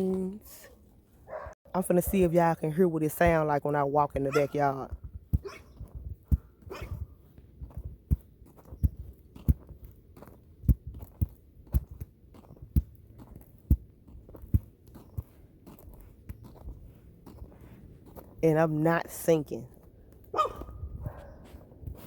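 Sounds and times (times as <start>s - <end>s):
footsteps on icy snow: 0.0s - 22.0s.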